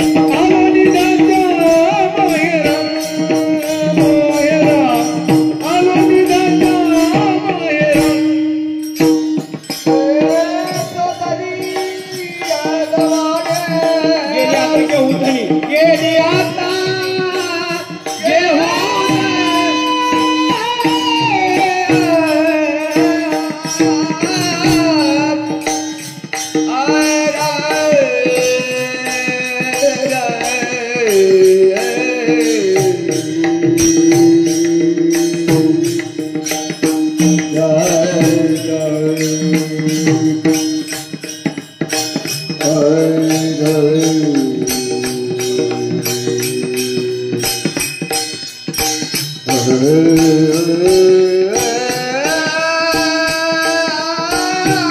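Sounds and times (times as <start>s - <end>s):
percussion tapping a beat: 0.0s - 54.9s
person singing devotional song: 0.0s - 54.9s.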